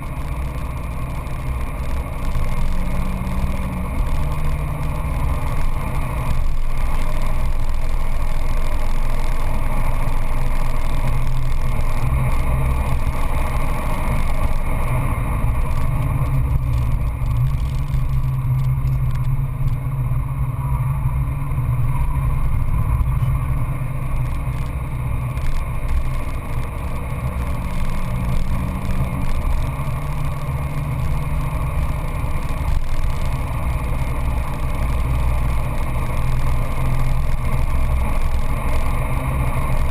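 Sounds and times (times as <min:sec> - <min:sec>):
car engine running hard: 0:00.0 - 0:39.9
road and wind noise: 0:00.0 - 0:39.9.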